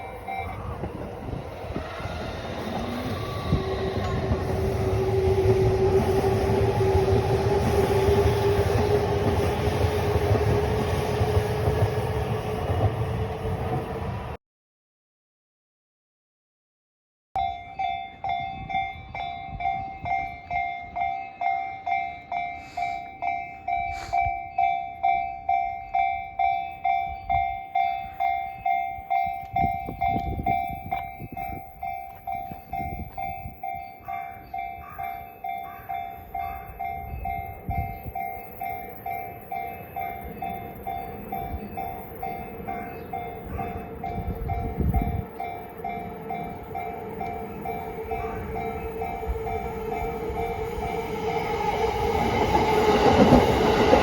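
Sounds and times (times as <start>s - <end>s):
level crossing warning bell: 0.0s - 11.8s, 17.4s - 54.0s
trains rumbling past: 0.0s - 14.4s, 17.7s - 54.0s.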